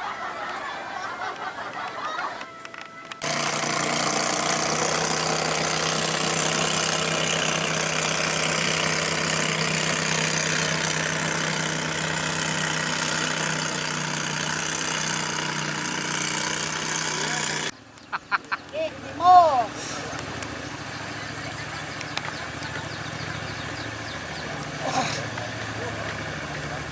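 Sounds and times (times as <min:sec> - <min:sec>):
engine running steadily: 0:00.0 - 0:26.9.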